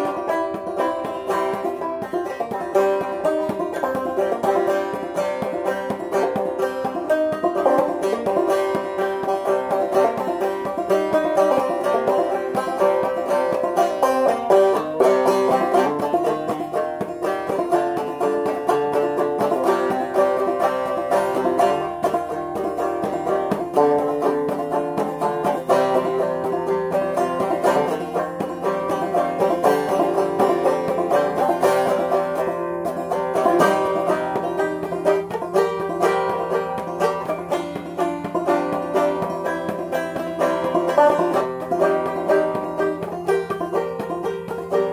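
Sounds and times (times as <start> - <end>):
banjo playing: 0.0 - 44.9.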